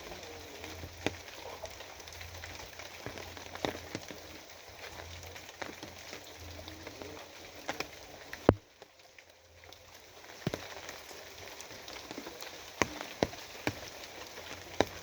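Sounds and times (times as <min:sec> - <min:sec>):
drops ticking on hard surface: 0:00.0 - 0:09.0, 0:09.7 - 0:15.0
rain hiss: 0:00.0 - 0:15.0.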